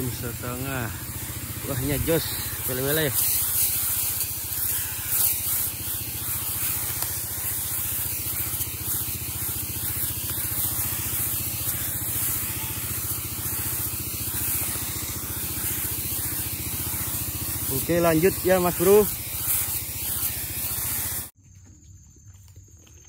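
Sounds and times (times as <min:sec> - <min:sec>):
rapid low pulsing: 0:00.0 - 0:21.3
sprayer nozzle hissing: 0:00.0 - 0:21.4.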